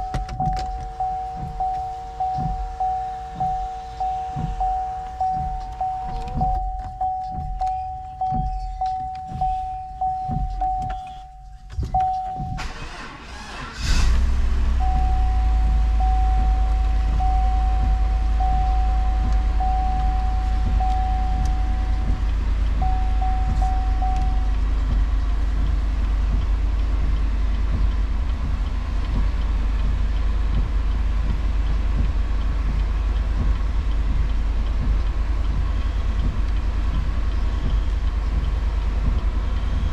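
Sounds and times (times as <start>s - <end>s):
car engine cranking: 0.0s - 39.9s
car engine idling: 0.0s - 39.9s
dashboard warning chime: 0.0s - 39.9s.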